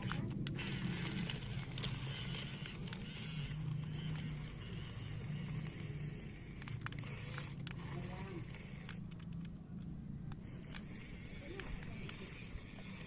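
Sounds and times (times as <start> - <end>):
sharp plastic clicks: 0.0 - 13.0
small electric motors whirring: 0.0 - 13.0.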